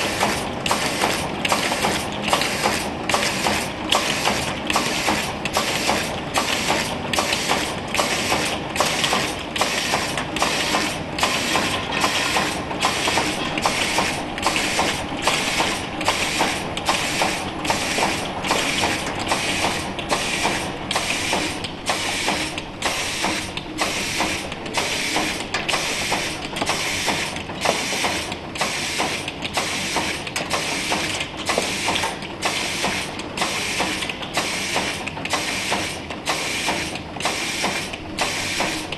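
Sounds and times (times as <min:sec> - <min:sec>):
machine clattering rhythmically: 0:00.0 - 0:38.9.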